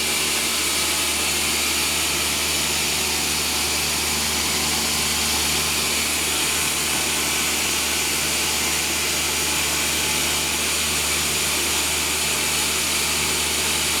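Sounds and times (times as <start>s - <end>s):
sawmill machinery drone: 0.0s - 14.0s.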